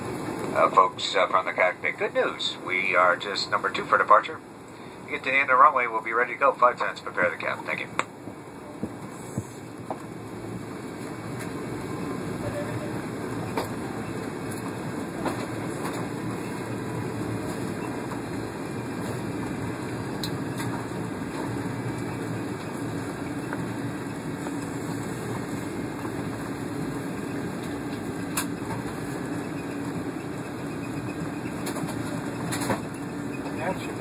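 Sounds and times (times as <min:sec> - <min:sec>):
airliner cabin engine rush: 0:00.0 - 0:34.0.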